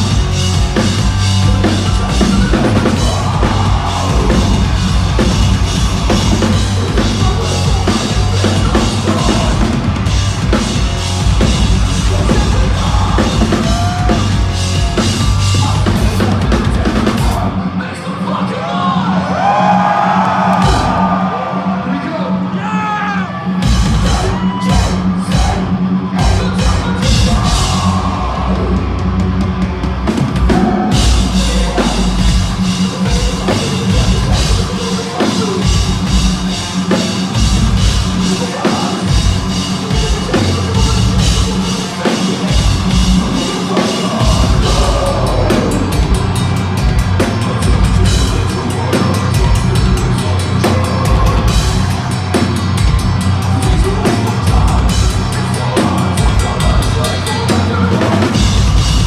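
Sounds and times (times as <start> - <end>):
drum kit and bass drum: 0.0 - 17.6, 20.5 - 21.3, 23.6 - 59.0
metalcore band playing live: 0.0 - 59.0.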